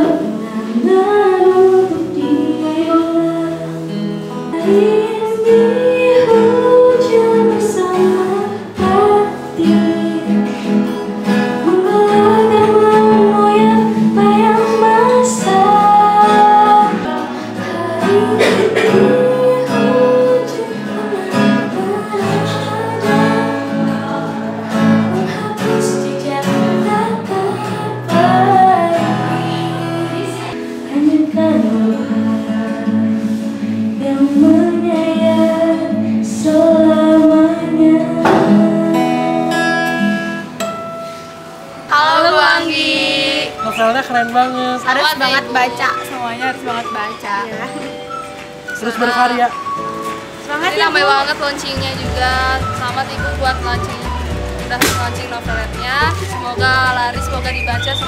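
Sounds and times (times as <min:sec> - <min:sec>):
woman singing: 0:00.0 - 0:40.2, 0:41.9 - 0:43.6, 0:50.5 - 0:58.0
acoustic guitar: 0:00.0 - 0:58.0.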